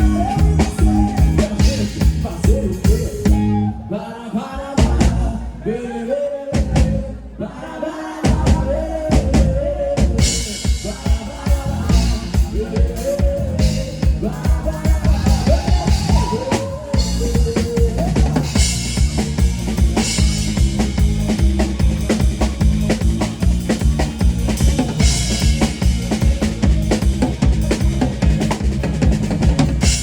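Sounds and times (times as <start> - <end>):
drum kit playing: 0.0 - 3.7, 4.8 - 5.4, 8.2 - 30.0.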